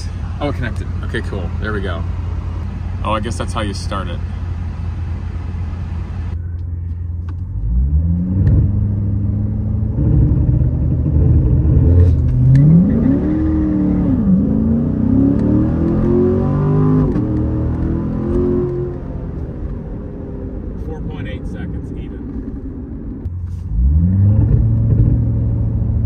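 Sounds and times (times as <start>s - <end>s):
diesel car engine idling and accelerating: 0.0s - 26.0s.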